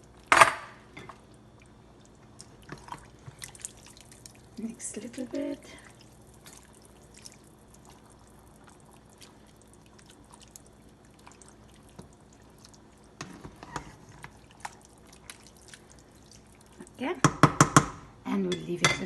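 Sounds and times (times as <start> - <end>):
thick chili stirred in pot: 1.0 - 17.7.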